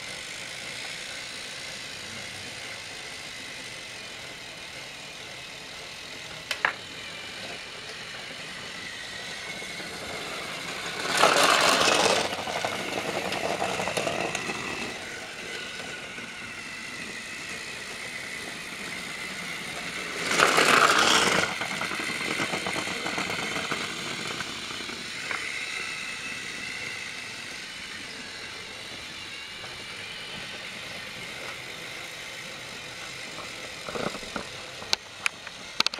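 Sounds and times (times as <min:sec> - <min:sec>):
toy train motors whirring: 0:00.0 - 0:35.9.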